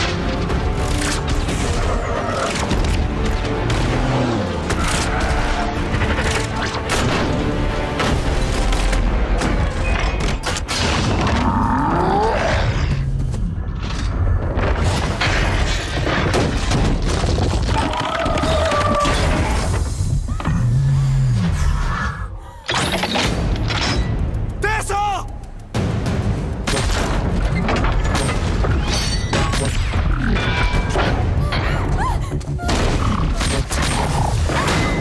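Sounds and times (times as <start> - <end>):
dramatic score music: 0.0 - 35.0.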